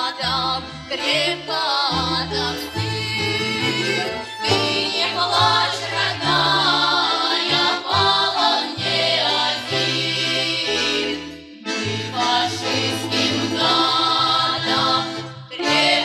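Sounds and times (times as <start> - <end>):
choir singing: 0.0 - 16.0
instrumental bass line: 0.1 - 16.0.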